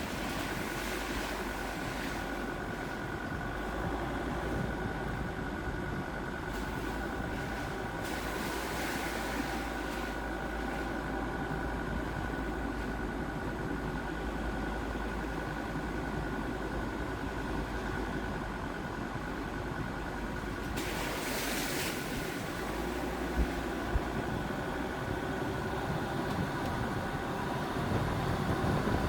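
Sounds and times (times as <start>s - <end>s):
diesel engine rumble: 0.0s - 29.0s
thin steady whine: 0.0s - 29.0s.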